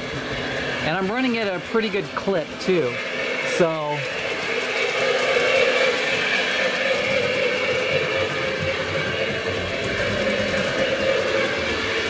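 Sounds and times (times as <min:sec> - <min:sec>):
model train rolling on track: 0:00.0 - 0:12.0.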